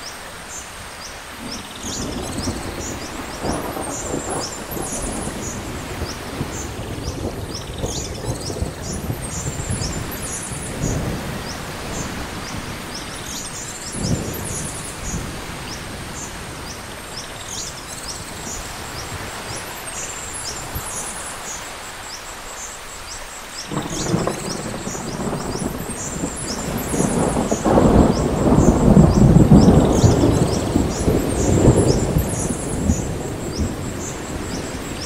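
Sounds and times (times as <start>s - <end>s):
birds chirping: 0.0s - 35.0s
rain: 0.0s - 35.0s
thunder rumbling: 1.3s - 21.0s, 23.7s - 35.0s.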